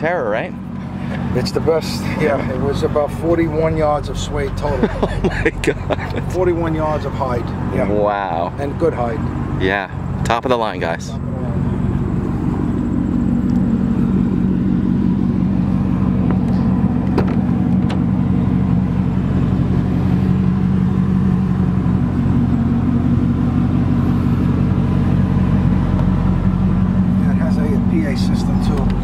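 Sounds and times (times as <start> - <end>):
vee eight engine idling: 0.0 - 29.0.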